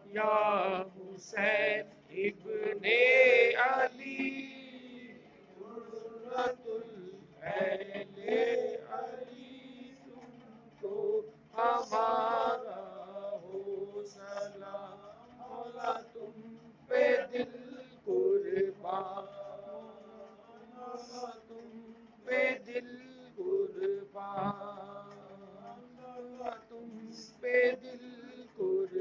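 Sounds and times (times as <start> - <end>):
men chanting: 0.0 - 29.0.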